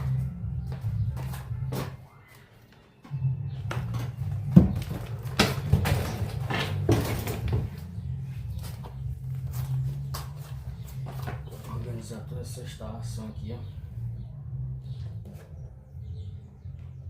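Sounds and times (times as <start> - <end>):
steady low hum: 0.0 - 2.3, 3.1 - 17.0.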